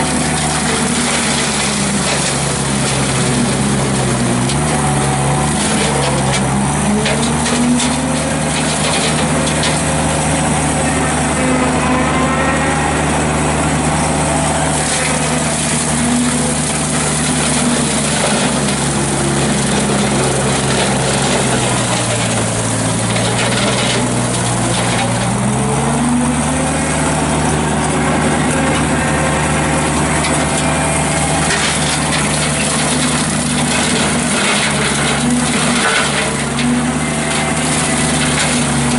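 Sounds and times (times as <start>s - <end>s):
skid steer engine running hard: 0.0s - 38.9s
whir of spinning mower deck: 0.0s - 38.9s.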